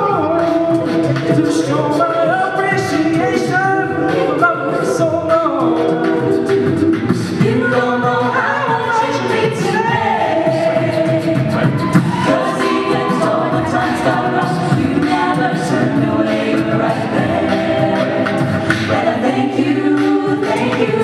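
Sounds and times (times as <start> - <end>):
group singing a cappella: 0.0 - 21.0.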